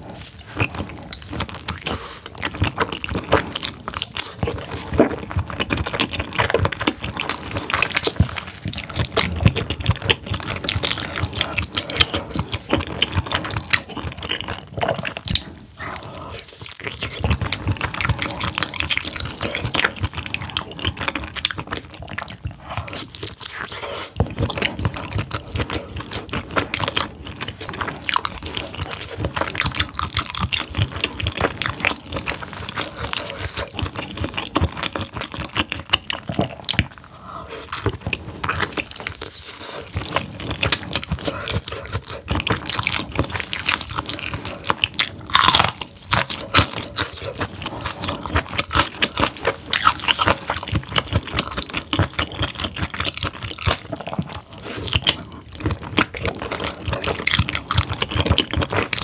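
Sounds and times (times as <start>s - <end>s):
chewing and biting squid: 0.0s - 59.0s.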